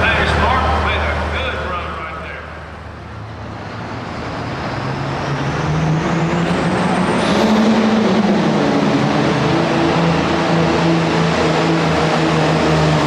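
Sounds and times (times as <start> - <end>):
high turbo whine: 0.0 - 13.0
tractor diesel engine revving: 0.0 - 13.0.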